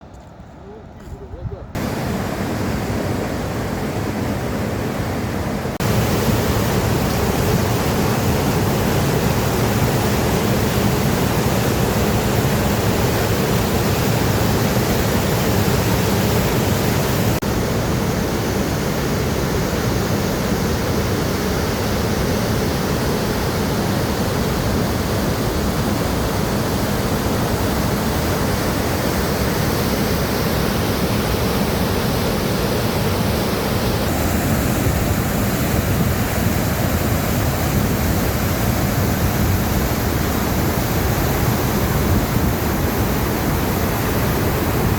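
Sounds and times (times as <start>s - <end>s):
rushing river water: 1.8s - 44.9s.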